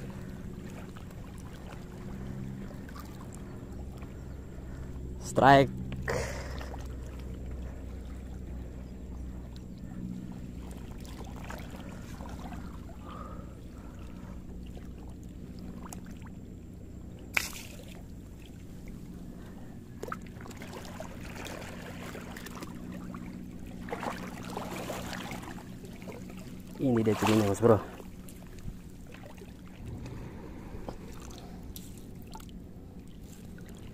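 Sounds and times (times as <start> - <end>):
low hum: 0.0 - 33.9
water lapping among rocks: 6.2 - 33.9.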